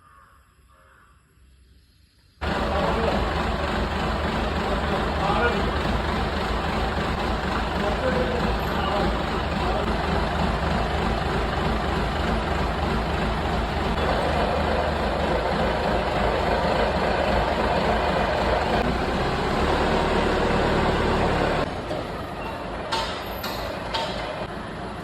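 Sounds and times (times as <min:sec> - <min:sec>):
excavator diesel engine running: 0:02.4 - 0:25.0.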